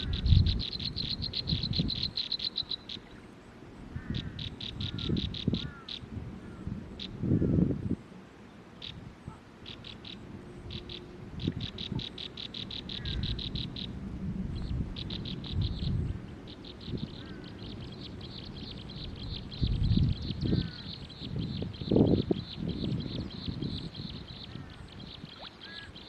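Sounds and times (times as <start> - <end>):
bird trilling call: 0.0 - 3.2, 4.0 - 6.0, 9.6 - 14.0, 14.6 - 26.0.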